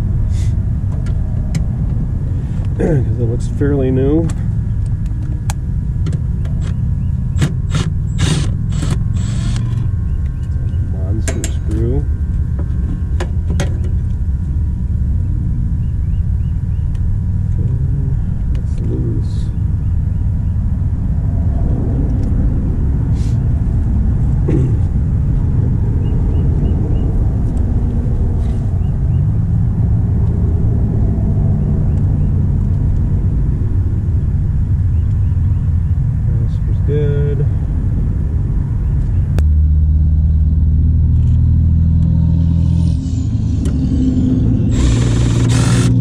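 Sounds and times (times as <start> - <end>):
low rumble: 0.0 - 46.0.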